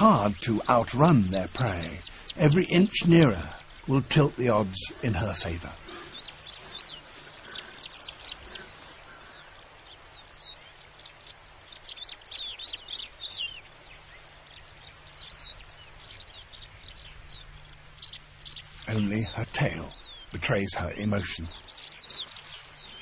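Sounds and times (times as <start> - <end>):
birds chirping: 0.0 - 23.0
steady background hiss: 0.0 - 23.0.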